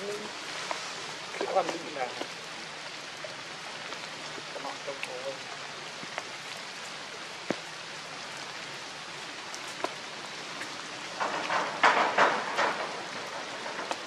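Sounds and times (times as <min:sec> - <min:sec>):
falling water hiss: 0:00.0 - 0:14.0.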